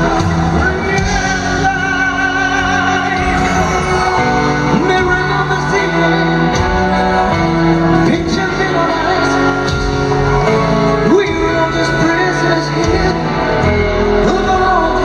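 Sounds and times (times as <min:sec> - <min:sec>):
electric guitar: 0:00.0 - 0:15.0
live band music: 0:00.0 - 0:15.0
man singing: 0:00.0 - 0:15.0.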